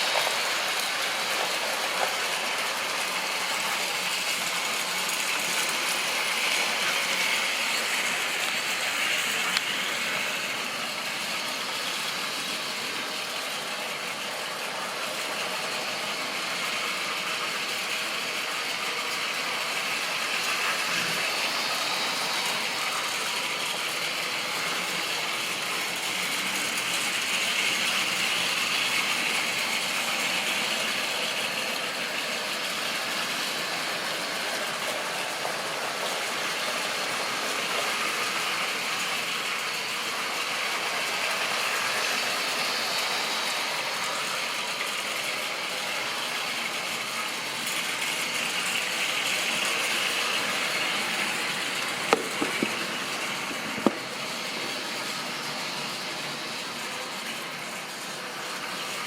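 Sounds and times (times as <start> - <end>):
model train whirring and rattling: 0.0 - 59.0.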